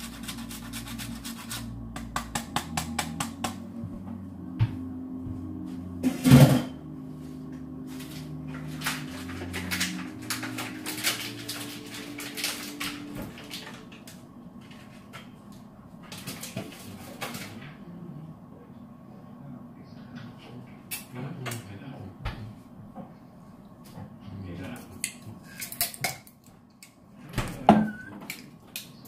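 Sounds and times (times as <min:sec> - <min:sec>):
low hum: 0:00.0 - 0:25.7.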